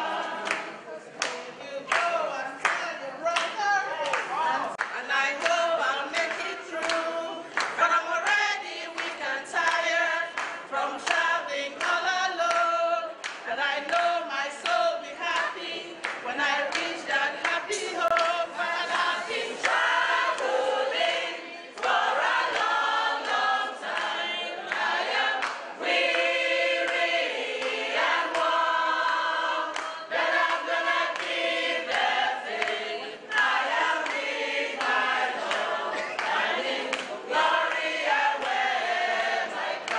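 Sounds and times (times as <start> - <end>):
women singing together: 0.0 - 39.9
hand claps: 0.2 - 20.6, 21.8 - 39.9.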